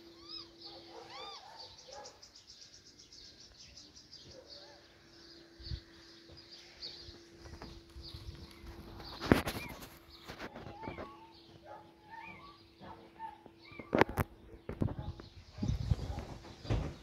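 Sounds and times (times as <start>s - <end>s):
small bird chirping and trilling: 0.0s - 16.6s
steady low hum: 0.0s - 17.0s.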